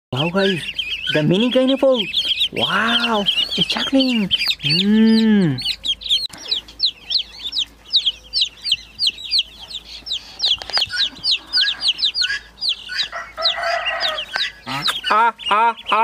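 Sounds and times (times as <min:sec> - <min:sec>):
young poultry peeping: 0:00.1 - 0:16.0.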